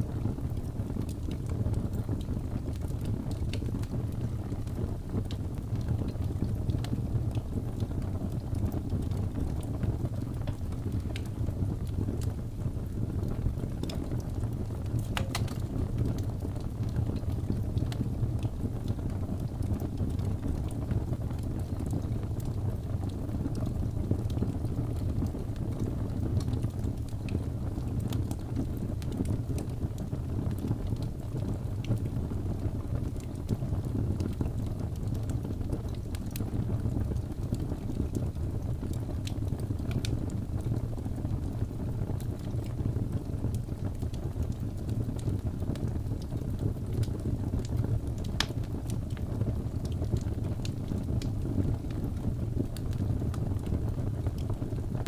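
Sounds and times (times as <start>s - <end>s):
fire crackles and pops: 0.0s - 55.0s.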